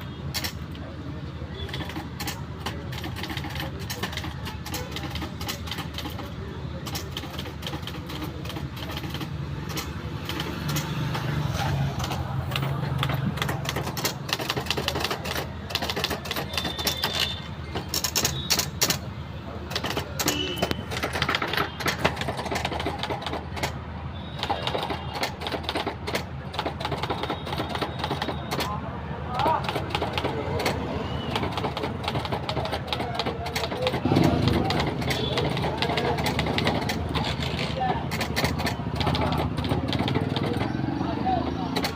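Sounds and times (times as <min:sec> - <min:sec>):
typewriter key clacks: 0:00.3 - 0:00.8, 0:01.6 - 0:19.1, 0:19.7 - 0:23.8, 0:24.4 - 0:28.8, 0:29.4 - 0:41.0, 0:41.7 - 0:41.9.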